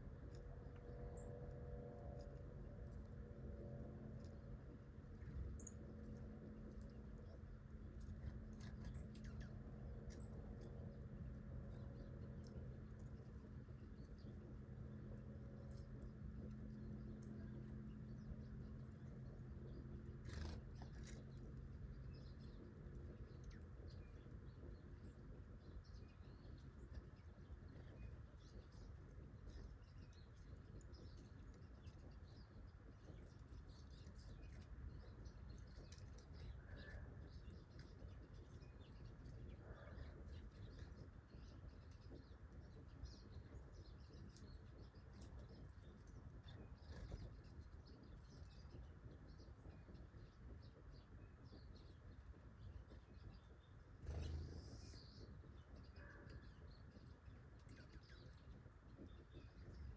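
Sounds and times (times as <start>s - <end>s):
low steady rumble: 0.0s - 59.9s
small birds chirping: 0.0s - 59.9s.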